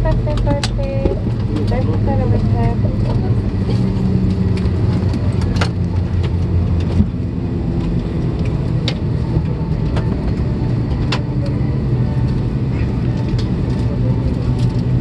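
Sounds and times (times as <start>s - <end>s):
low hum of jet engines: 0.0s - 15.0s.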